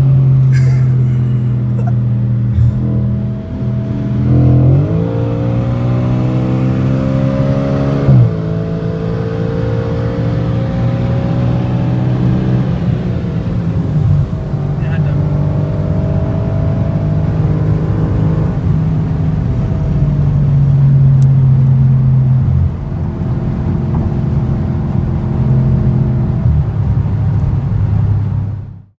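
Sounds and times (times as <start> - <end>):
road noise: 0.0 - 28.9
car engine: 0.0 - 29.0.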